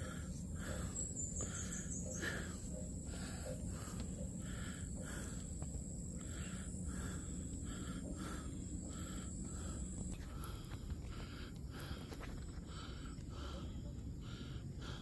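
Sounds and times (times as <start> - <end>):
high-pitched insect whine: 0.0 - 15.0
rhythmic insect chirps: 0.0 - 15.0.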